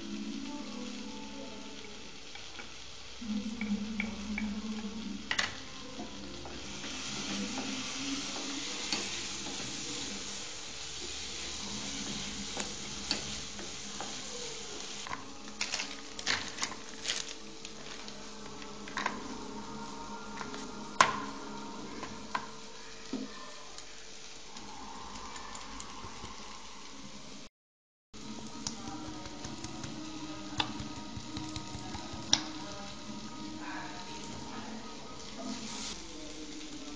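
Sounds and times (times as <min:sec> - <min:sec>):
food sizzling: 0:00.0 - 0:27.5, 0:28.2 - 0:36.9.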